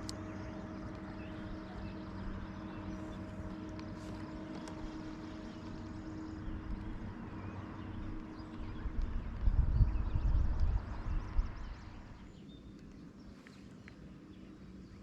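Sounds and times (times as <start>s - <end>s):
boat motor drone: 0.0s - 15.0s
outdoor background: 0.0s - 15.0s.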